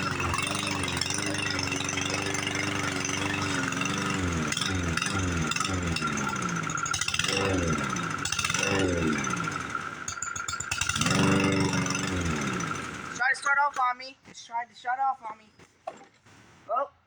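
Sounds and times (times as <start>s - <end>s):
lawn mower engine faltering: 0.0s - 14.0s.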